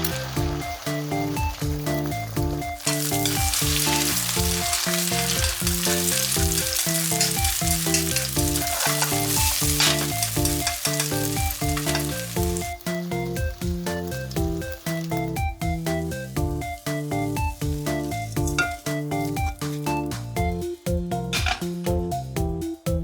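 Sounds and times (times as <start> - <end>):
food sizzling in a pan: 0.0 - 20.3
background music: 0.0 - 23.0.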